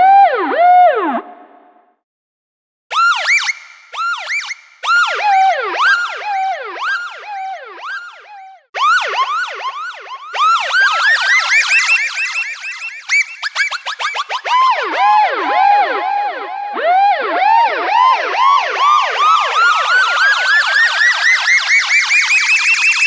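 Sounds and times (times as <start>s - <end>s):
police siren yelping: 2.9s - 23.0s.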